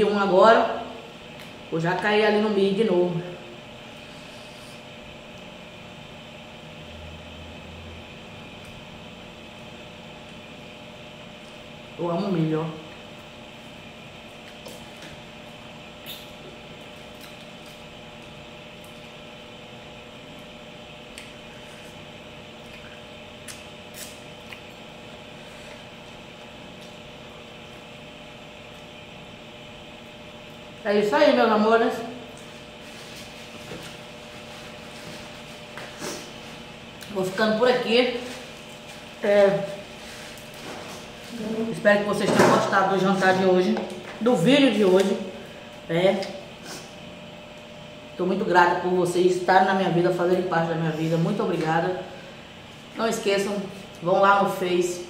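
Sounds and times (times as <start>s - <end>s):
room noise hum and hiss: 0.0s - 55.0s.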